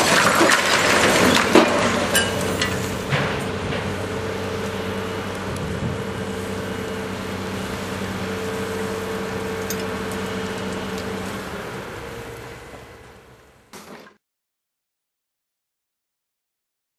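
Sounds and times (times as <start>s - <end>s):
diesel engine running: 0.0s - 13.7s.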